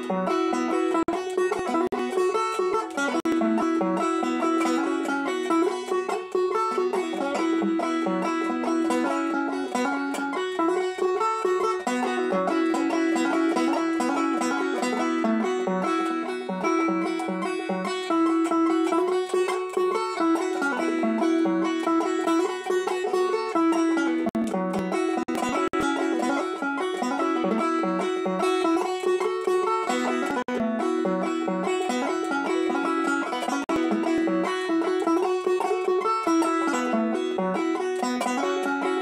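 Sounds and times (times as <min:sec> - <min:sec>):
banjo picking fast roll: 0:00.0 - 0:39.0.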